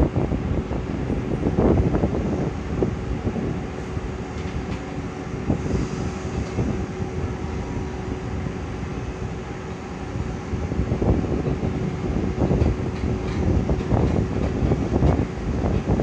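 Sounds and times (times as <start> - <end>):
locomotive whirring hum: 0.0 - 16.0
wind rumble on microphone: 0.0 - 16.0.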